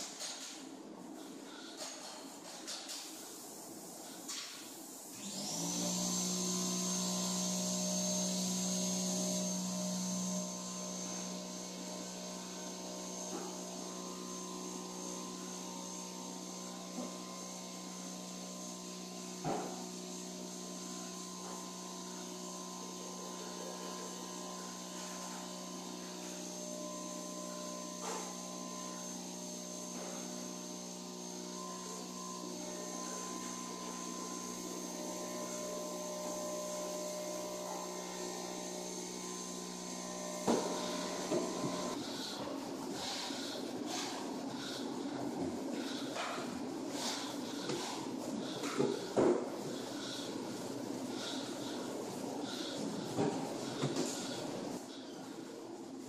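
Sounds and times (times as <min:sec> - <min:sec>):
electric motor humming and whining: 0:05.0 - 0:55.1.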